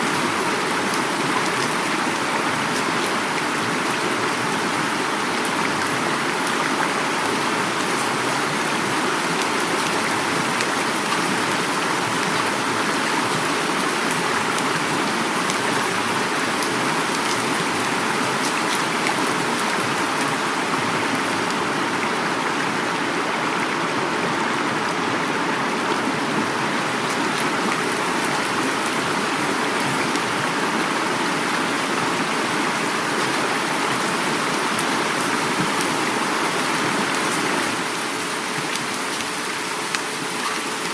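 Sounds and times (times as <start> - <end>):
heavy rain: 0.0 - 40.9
river flowing: 0.0 - 40.9.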